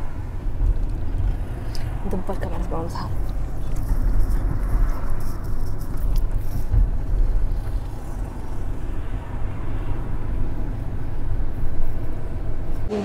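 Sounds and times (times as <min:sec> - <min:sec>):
road noise: 0:00.0 - 0:13.0
van engine rumble: 0:00.0 - 0:13.0.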